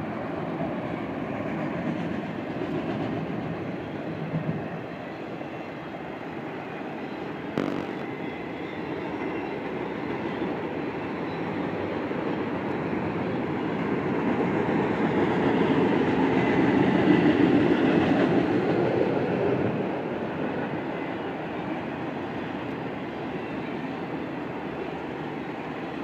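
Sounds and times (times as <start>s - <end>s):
train wheels rumbling on rails: 0.0s - 6.3s, 7.6s - 26.0s.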